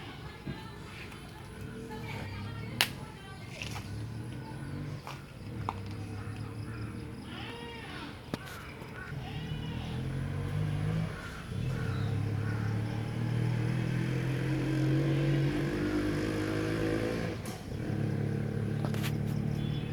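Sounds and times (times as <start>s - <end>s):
engine running: 1.2s - 7.2s, 9.0s - 19.9s.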